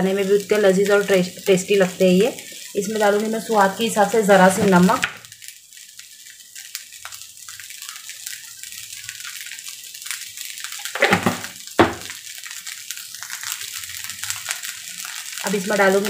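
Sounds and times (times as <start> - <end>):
rice sizzling in metal pan: 0.0 - 16.0.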